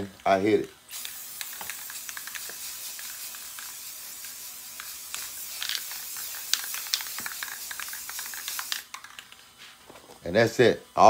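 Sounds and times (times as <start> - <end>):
aerosol spray can hissing: 0.9 - 9.8.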